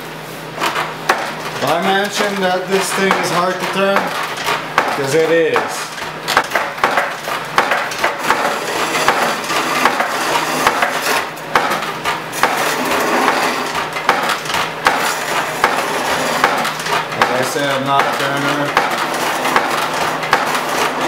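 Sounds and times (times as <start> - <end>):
chisel scraping spinning wood: 0.6 - 6.0, 6.6 - 21.0
sharp clicks and knocks: 0.6 - 21.0.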